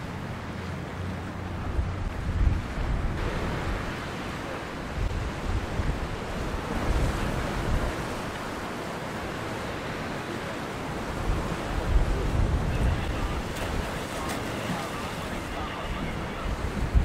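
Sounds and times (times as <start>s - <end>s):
choppy sea hiss: 0.0s - 17.0s
wind buffeting microphone: 0.0s - 17.0s.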